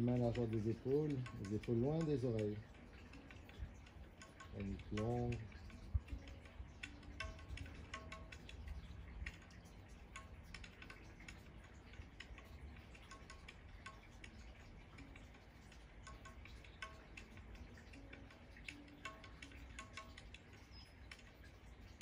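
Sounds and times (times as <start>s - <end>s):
soft ticks: 0.0s - 22.0s.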